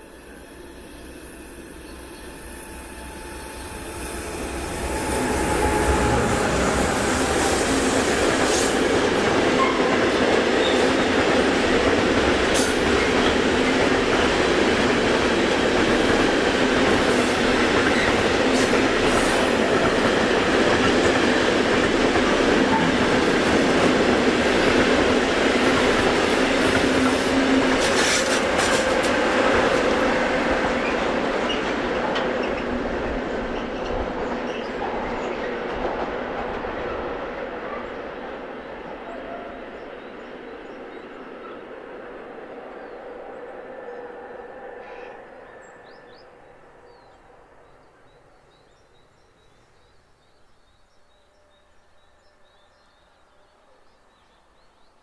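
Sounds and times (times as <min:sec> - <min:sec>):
freight train rolling past: 0:00.0 - 0:49.4.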